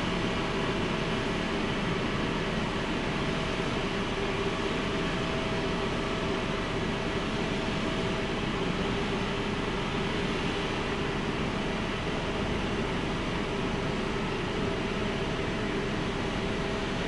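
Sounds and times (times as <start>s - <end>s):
jet aircraft rush and whine: 0.0s - 17.0s.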